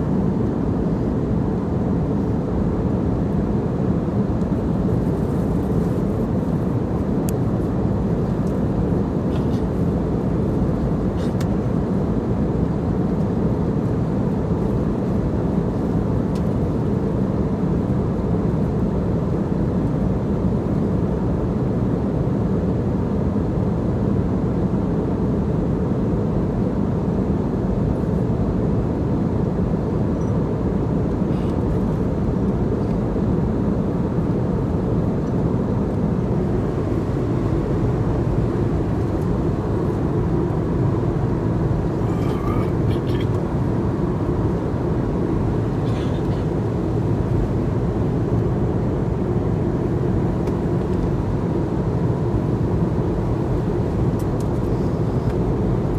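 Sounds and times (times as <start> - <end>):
airliner cabin engine noise: 0.0 - 55.9.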